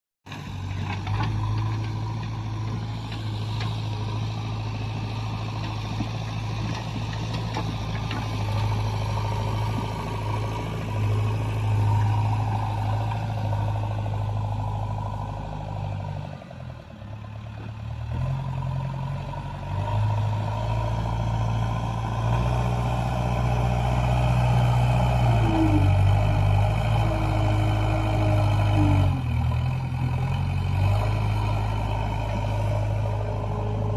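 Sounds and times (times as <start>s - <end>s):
backhoe diesel engine working: 0.3s - 33.9s.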